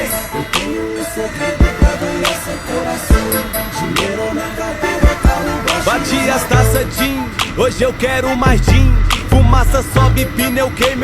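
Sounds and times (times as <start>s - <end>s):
hip hop music: 0.0s - 11.0s.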